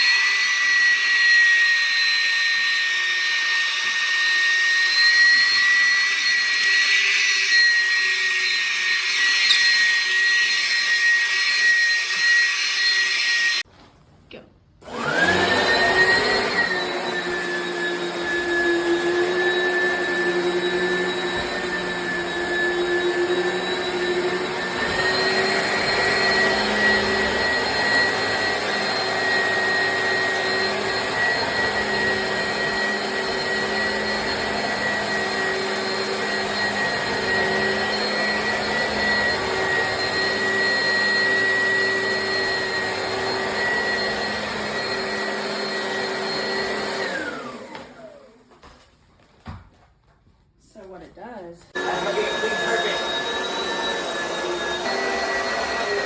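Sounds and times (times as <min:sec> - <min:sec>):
vacuum cleaner running: 0:00.0 - 0:13.7, 0:14.8 - 0:48.8, 0:50.8 - 0:56.0.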